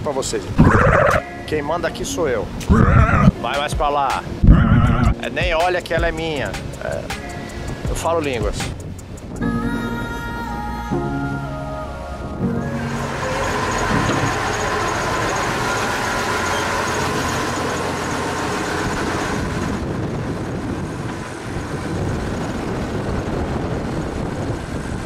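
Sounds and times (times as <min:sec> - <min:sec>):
truck engine rumbling: 0:00.6 - 0:03.5, 0:04.2 - 0:10.8, 0:11.4 - 0:25.0.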